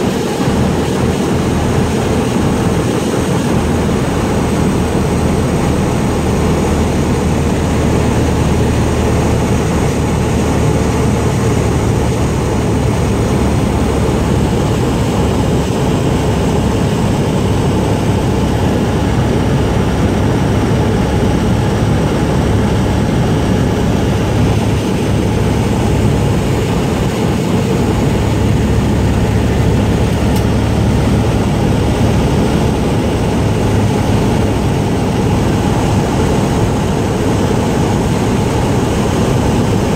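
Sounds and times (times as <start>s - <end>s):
airflow rushing: 0.0s - 39.9s
propeller airplane engine in cabin: 0.0s - 39.9s.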